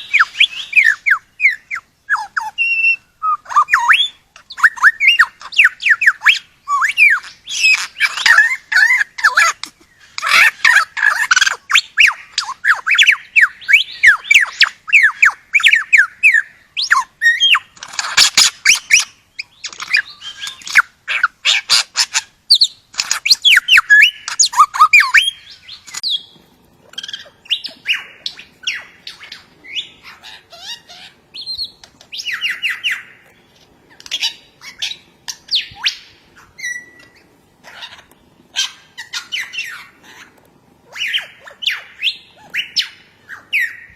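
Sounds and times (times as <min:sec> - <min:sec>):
bird chirping and squawking: 0:00.0 - 0:43.9.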